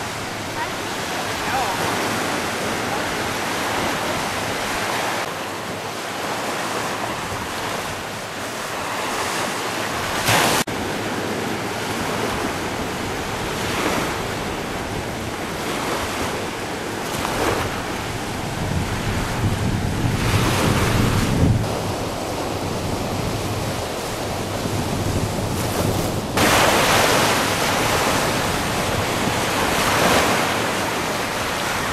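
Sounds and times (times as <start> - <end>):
waves washing onto beach: 0.0 - 31.9
wind buffeting microphone: 6.2 - 31.9.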